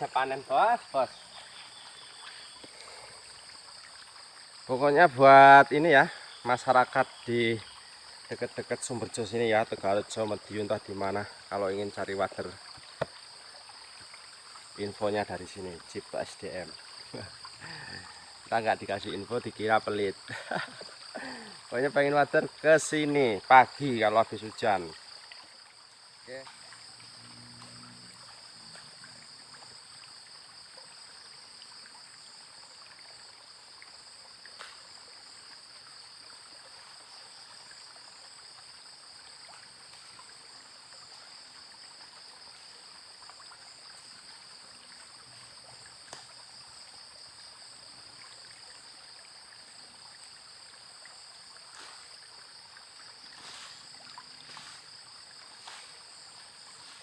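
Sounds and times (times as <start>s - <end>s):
insects droning: 0.0s - 57.0s
running water: 0.0s - 57.0s.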